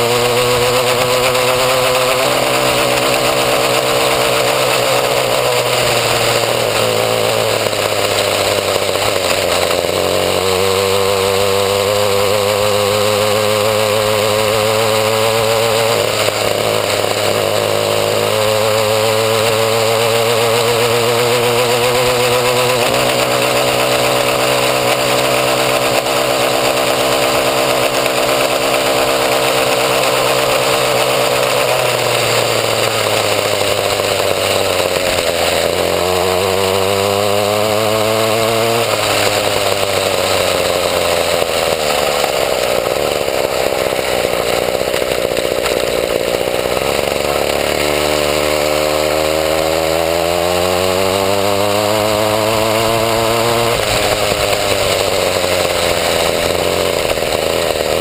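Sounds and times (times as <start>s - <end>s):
small two-stroke engine running: 0.0s - 58.0s.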